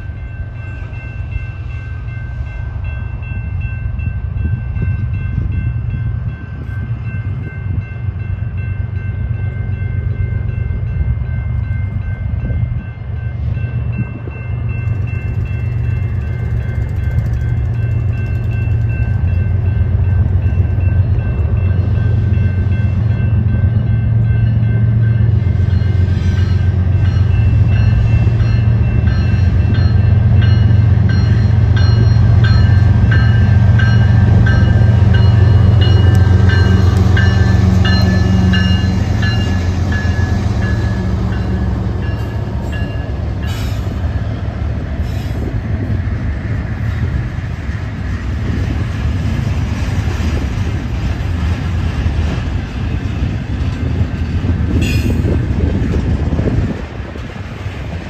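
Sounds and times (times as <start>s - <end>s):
locomotive engines droning: 0.0s - 58.0s
train wheels rumbling on rail: 0.0s - 58.0s.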